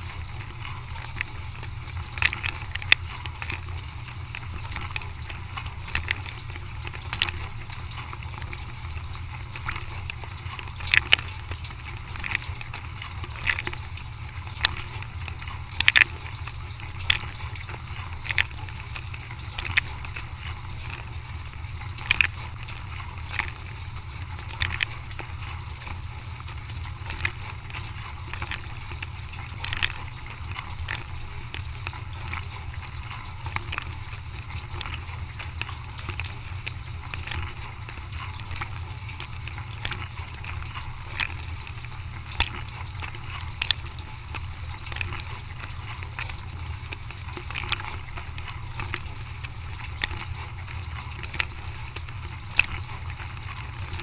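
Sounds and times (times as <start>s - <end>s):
dishwasher humming: 0.0s - 54.0s
water spraying inside tub: 0.0s - 54.0s.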